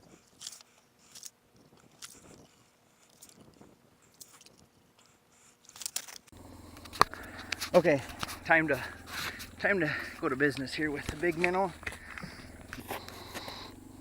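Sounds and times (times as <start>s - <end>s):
crunches in snow and ice: 0.0s - 13.7s.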